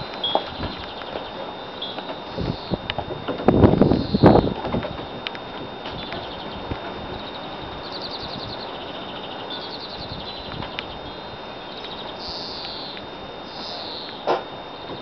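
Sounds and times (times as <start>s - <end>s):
outdoor background hiss: 0.0s - 15.0s
songbirds trilling: 0.0s - 15.0s.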